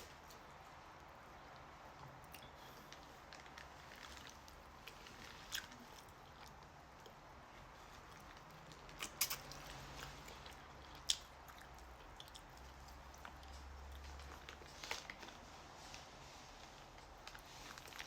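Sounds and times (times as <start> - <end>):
person chewing food: 0.2 - 15.4, 16.7 - 18.0.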